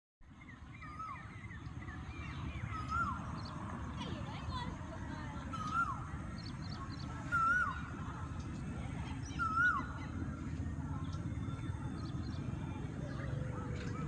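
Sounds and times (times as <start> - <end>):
bird calling: 0.3 - 14.0.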